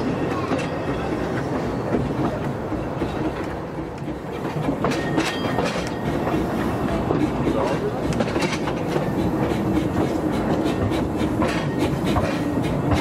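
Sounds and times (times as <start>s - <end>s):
railway carriage rumble: 0.0s - 13.0s
wheels clicking over rail joints: 0.0s - 13.0s.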